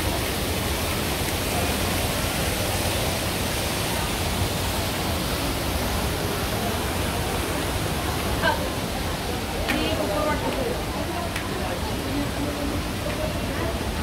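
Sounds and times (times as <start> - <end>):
faint voices: 0.0 - 14.0
steady rushing noise: 0.0 - 14.0.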